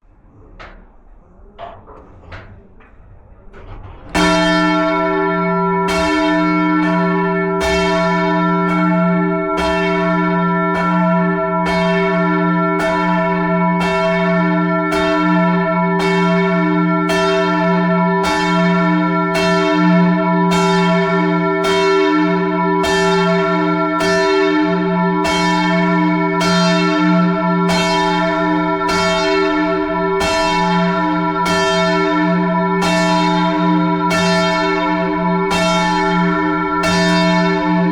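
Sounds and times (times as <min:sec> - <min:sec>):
church bells ringing: 0:04.1 - 0:37.9.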